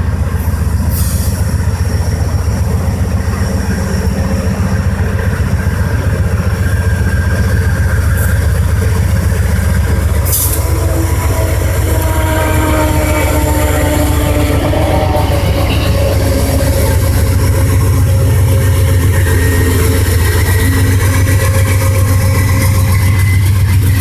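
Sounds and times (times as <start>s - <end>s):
diesel train engine rumble: 0.0s - 24.0s
rail noise: 0.0s - 24.0s
wheel squeal: 0.9s - 24.0s.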